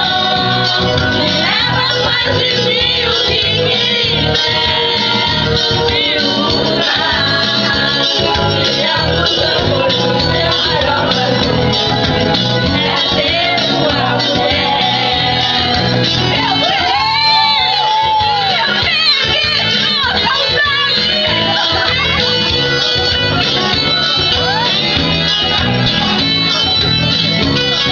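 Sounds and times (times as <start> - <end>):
song with singing voice: 0.0 - 27.9.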